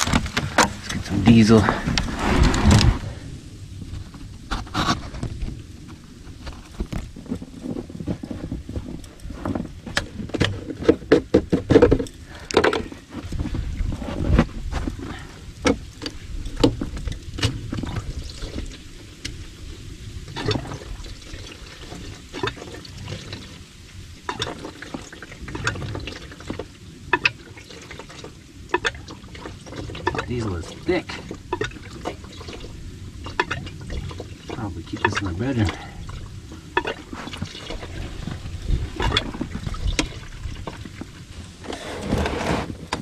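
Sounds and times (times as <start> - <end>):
diesel fuel pouring: 0.0 - 43.0.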